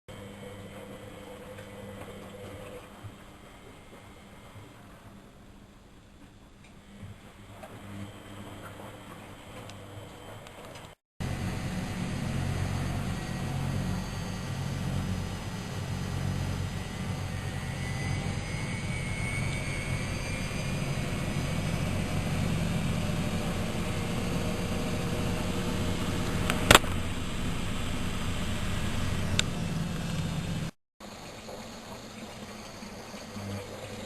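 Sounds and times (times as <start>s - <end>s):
washing machine motor hum: 0.1s - 34.0s.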